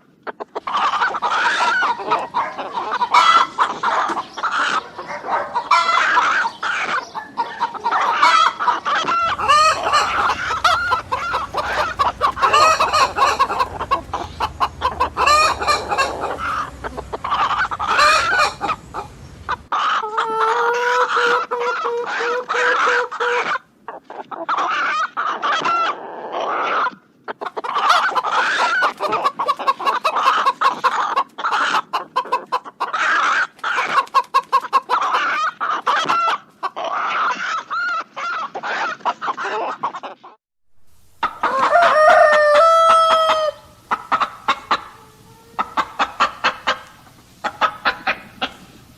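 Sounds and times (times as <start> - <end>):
chickens clucking: 0.0 - 40.4, 41.1 - 48.9
long steady chicken call: 0.5 - 40.2, 41.0 - 48.9.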